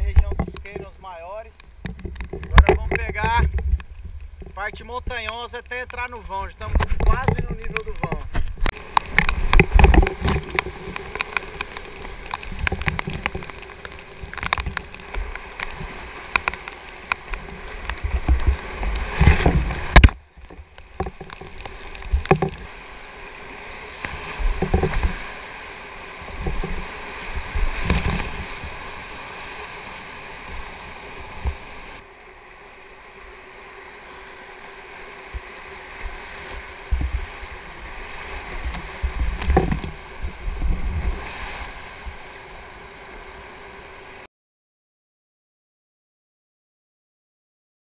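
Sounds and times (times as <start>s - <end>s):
paddle strokes: 0.0s - 44.3s
rapids rushing: 0.0s - 44.3s
waves splashing: 0.0s - 44.3s.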